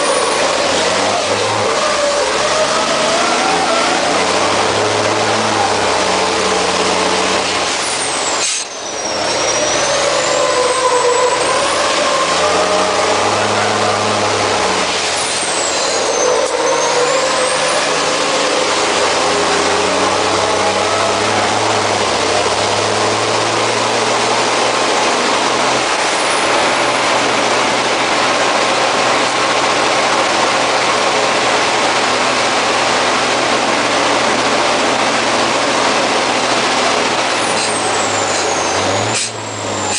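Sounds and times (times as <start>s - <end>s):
constant rushing noise: 0.0s - 39.9s
diesel truck engine running hard: 0.0s - 39.9s.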